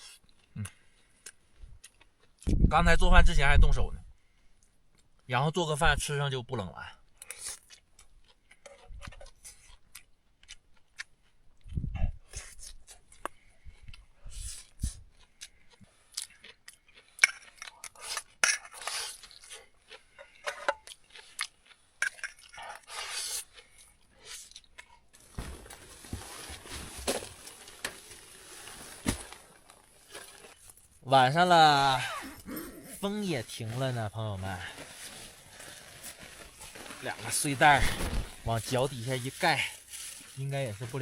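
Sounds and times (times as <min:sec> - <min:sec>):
chewing and crunching: 0:00.0 - 0:02.5, 0:06.9 - 0:37.6.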